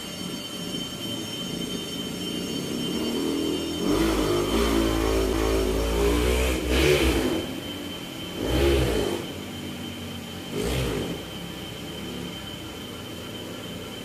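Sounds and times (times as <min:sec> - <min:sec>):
engine running and revving: 0:00.0 - 0:14.0
steady high whine: 0:00.0 - 0:14.0.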